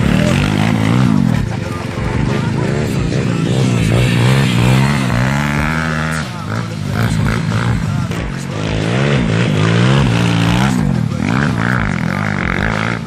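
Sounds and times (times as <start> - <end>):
pit bike engines revving: 0.0 - 13.0.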